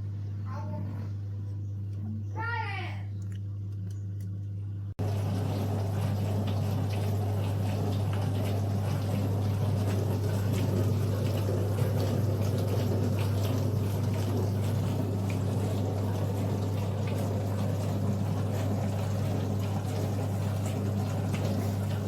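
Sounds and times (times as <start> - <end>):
pump hum: 0.0 - 22.0.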